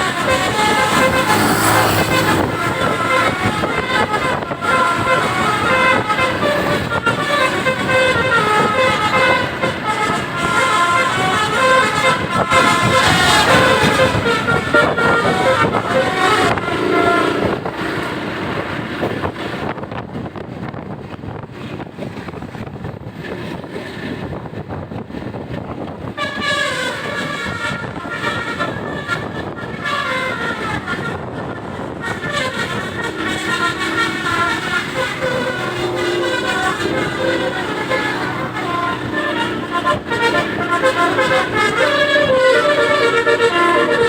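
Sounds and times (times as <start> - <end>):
melodic bus horns: 0.0 - 21.4, 24.2 - 44.0
engine noise: 0.0 - 21.8, 25.6 - 44.0
traffic noise: 0.0 - 44.0.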